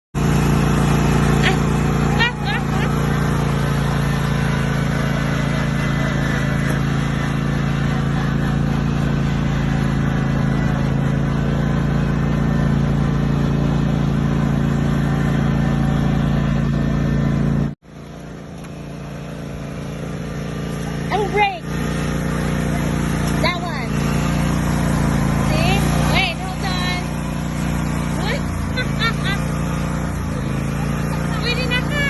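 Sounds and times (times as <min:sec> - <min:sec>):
riding lawn mower engine: 0:00.1 - 0:32.0.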